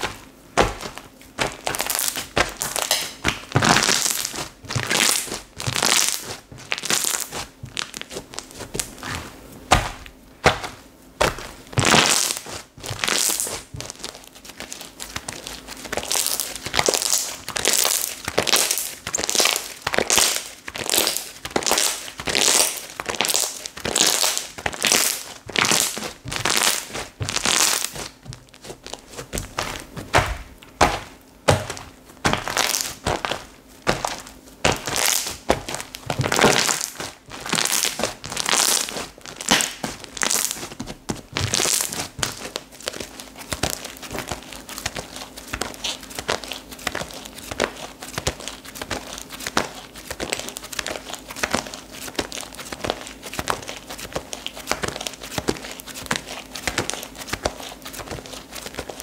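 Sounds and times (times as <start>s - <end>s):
slime squelching by hand: 0.0s - 59.0s.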